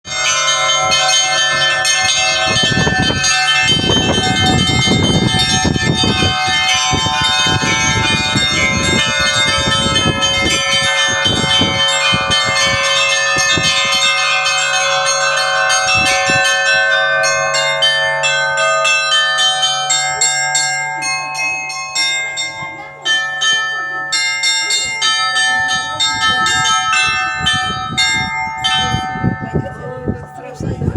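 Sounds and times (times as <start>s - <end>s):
large bell humming: 0.1s - 30.9s
small bells struck quickly: 0.1s - 30.9s.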